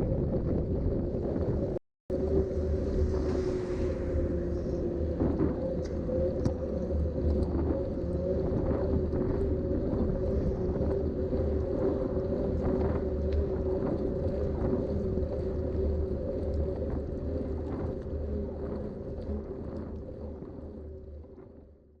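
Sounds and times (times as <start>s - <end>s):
wind noise: 0.0s - 21.8s.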